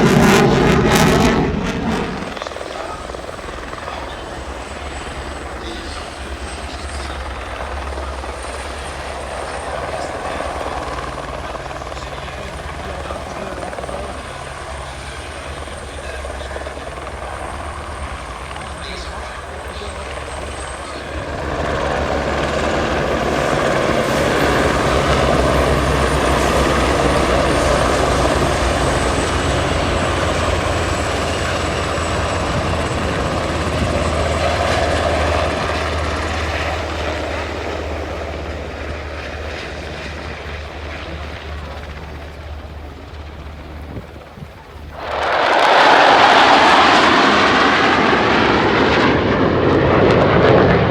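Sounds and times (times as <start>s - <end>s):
helicopter flying past: 0.0s - 50.9s.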